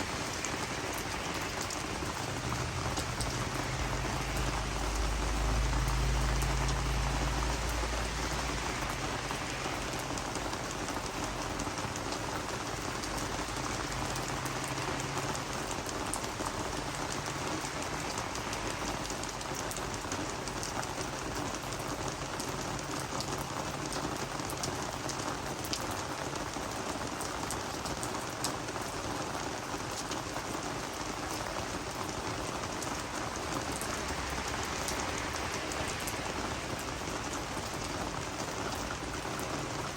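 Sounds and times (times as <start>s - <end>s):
rain pattering on plants: 0.0s - 39.9s.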